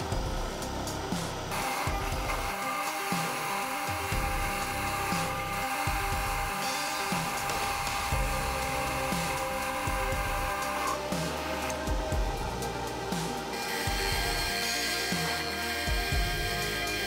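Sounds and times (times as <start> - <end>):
background music: 0.0 - 17.0
metal lathe whining: 0.0 - 17.0.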